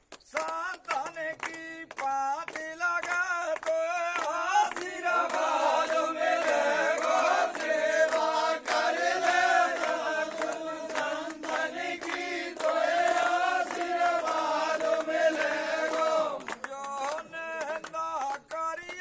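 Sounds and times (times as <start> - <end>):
rhythmic hand clapping: 0.0 - 19.0
men singing a chant: 0.4 - 19.0.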